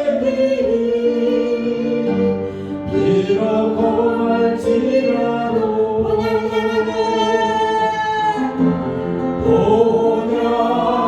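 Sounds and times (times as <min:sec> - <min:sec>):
congregation singing in unison: 0:00.0 - 0:11.0
instrumental accompaniment: 0:00.0 - 0:11.0.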